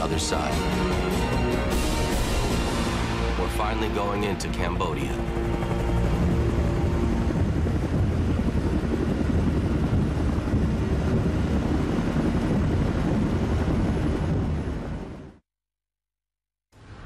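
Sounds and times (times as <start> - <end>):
helicopter rotor chop: 0.0 - 15.3
turbine noise: 0.0 - 15.4.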